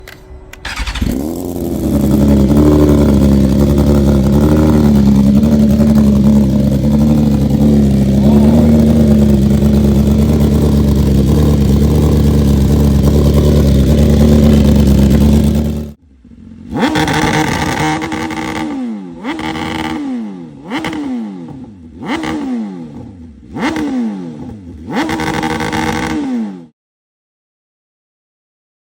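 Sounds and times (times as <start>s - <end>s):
motorcycle engine running: 0.6s - 26.7s
motorcycle engine revving: 0.6s - 26.8s.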